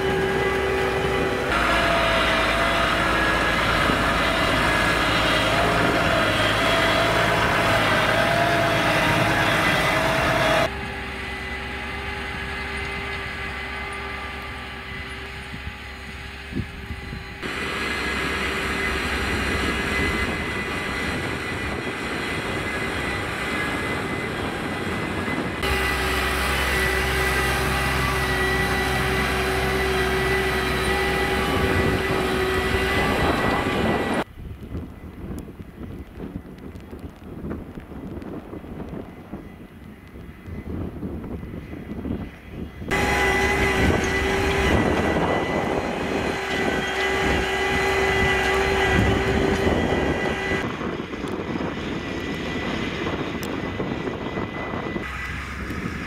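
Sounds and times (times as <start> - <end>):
tractor diesel engine running: 0.0 - 34.3, 42.8 - 56.0.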